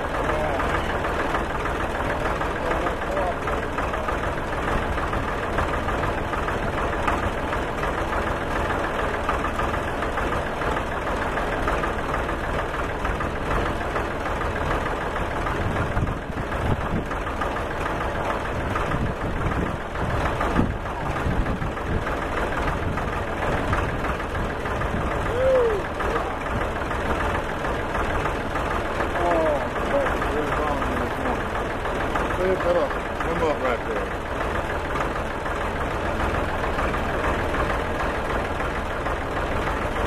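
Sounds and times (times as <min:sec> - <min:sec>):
tractor engine idling: 0:00.0 - 0:40.0.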